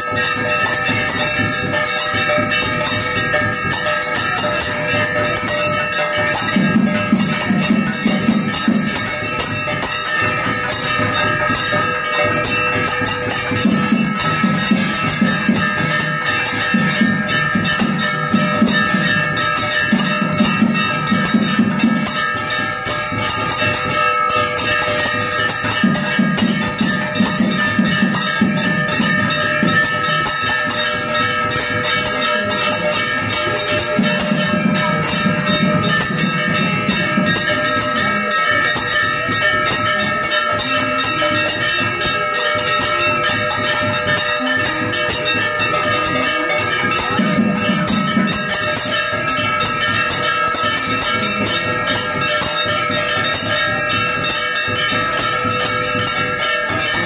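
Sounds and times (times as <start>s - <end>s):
temple bells ringing rapidly: 0.0s - 57.0s.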